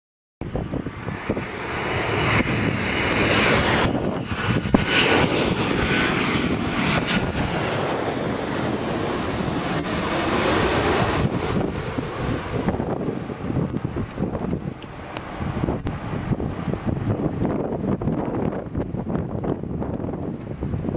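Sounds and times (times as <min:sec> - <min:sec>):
jet airliner passing overhead: 0:00.4 - 0:20.9.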